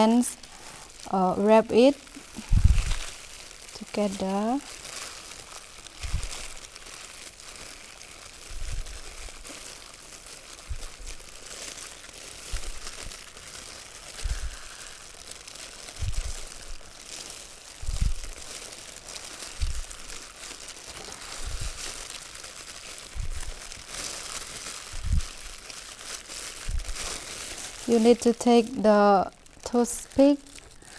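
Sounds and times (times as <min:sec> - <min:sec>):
plastic gloves and leaf rustling: 0:00.0 - 0:30.9.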